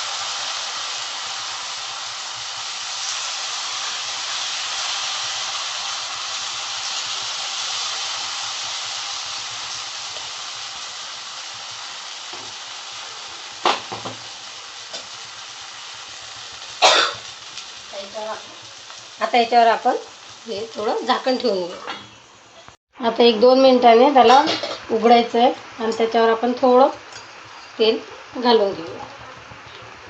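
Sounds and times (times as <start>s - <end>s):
batter sizzling in hot oil: 0.0s - 30.0s.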